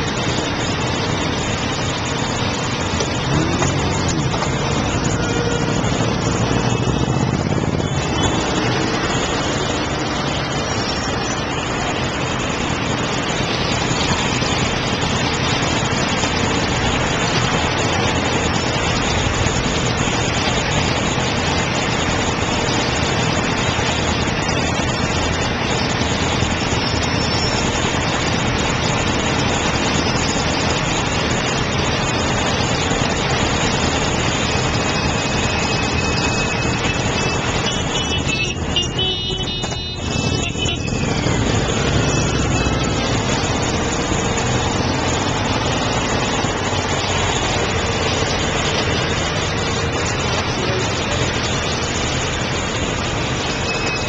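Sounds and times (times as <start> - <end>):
motorcycle engines idling: 0.0 - 53.6
city road traffic: 0.0 - 54.0.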